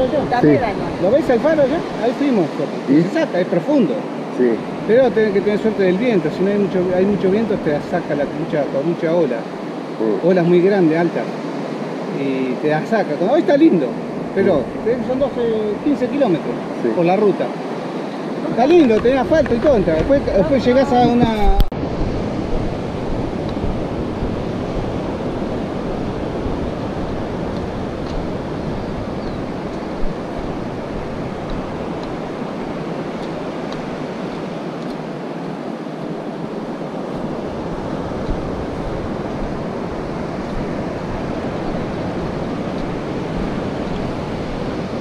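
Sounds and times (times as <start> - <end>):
wind rumbling on microphone: 0.0 - 10.3, 11.2 - 45.0
surf breaking on beach: 0.0 - 45.0.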